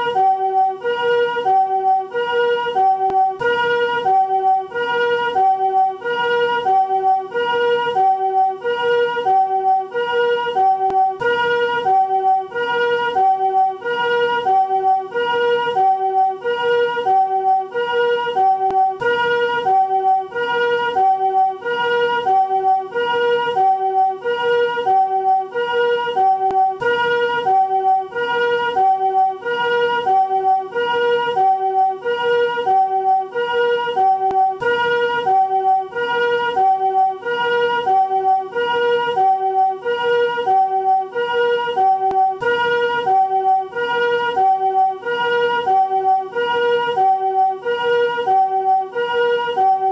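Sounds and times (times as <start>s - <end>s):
two-tone ambulance siren: 0.0s - 49.9s.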